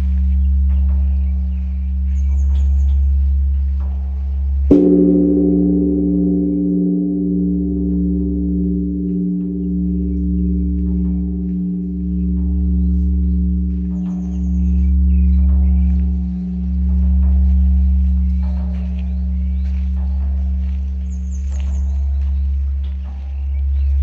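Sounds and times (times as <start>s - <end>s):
large bronze bell ringing deeply: 0.0s - 24.0s.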